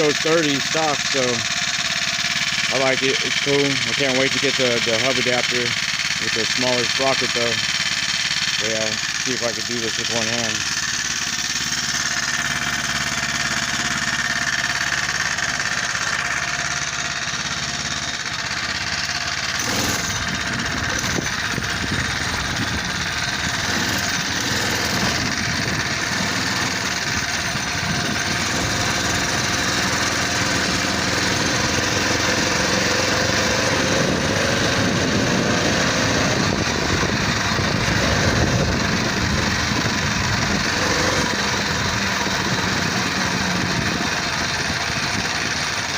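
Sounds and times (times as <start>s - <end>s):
motorized bicycle engine running: 0.0s - 45.9s.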